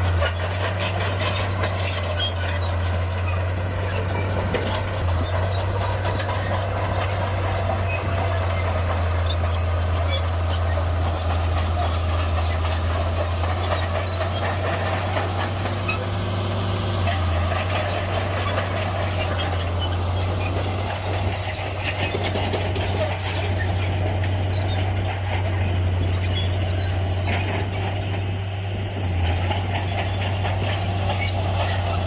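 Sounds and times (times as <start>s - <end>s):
diesel machinery engine drone: 0.0s - 32.0s
light clicks and squeaks: 0.1s - 16.0s, 17.2s - 28.3s.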